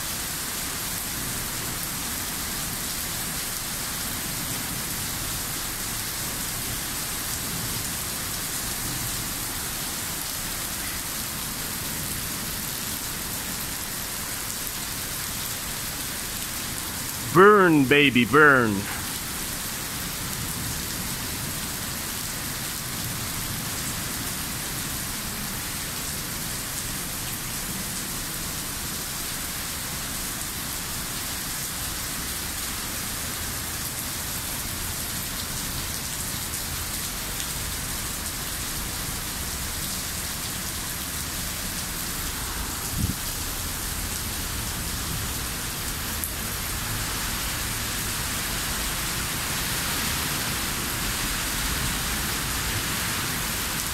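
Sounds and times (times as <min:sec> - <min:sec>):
heavy rain on pavement: 0:00.0 - 0:17.9, 0:18.7 - 0:53.9.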